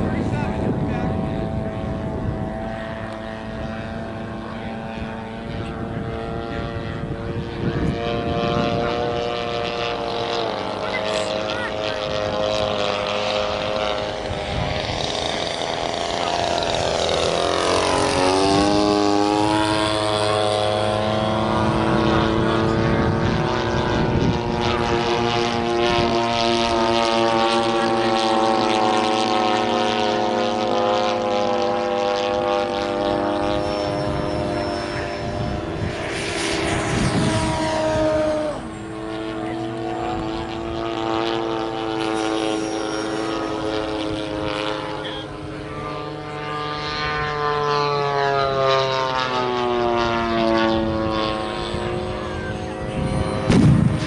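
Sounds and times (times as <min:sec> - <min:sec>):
model airplane engine droning: 0:00.0 - 0:54.0.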